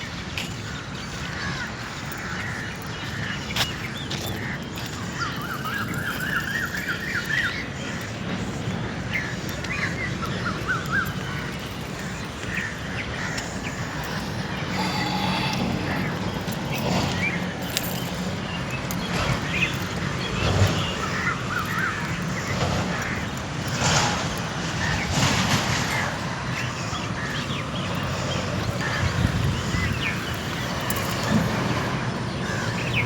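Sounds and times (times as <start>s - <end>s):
birds chirping trills: 0.0s - 33.0s.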